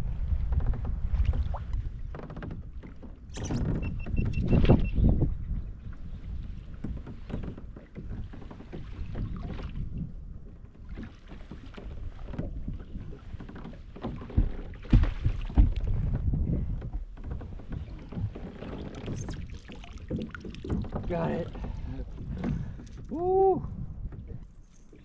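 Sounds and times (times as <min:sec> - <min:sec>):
water lapping against kayak: 0:00.0 - 0:25.0
wind buffeting microphone: 0:00.0 - 0:25.0.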